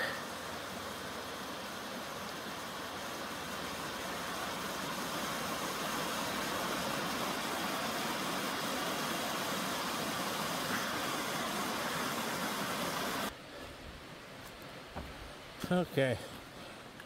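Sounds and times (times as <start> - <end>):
waterfall rushing water: 0.0 - 16.8.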